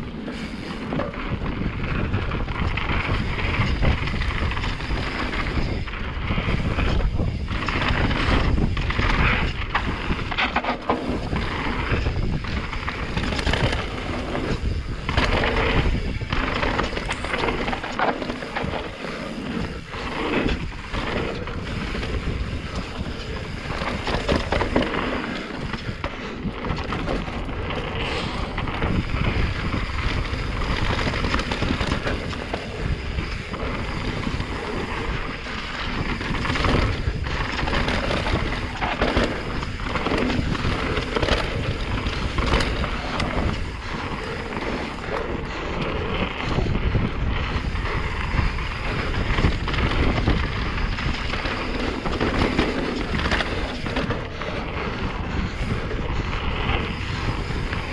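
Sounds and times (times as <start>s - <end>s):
bike knocks and rattles: 0.0s - 57.9s
tyre noise on dirt and rock: 0.0s - 57.9s
wind buffeting microphone: 0.0s - 57.9s.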